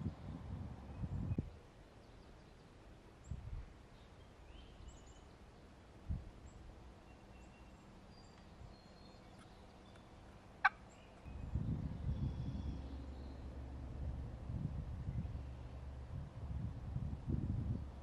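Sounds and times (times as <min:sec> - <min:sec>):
songbird chirps: 0:00.0 - 0:13.8, 0:15.0 - 0:16.0.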